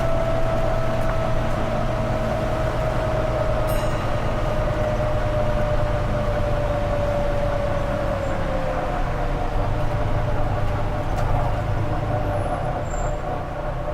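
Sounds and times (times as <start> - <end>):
diesel engine rumble: 0.0 - 13.9.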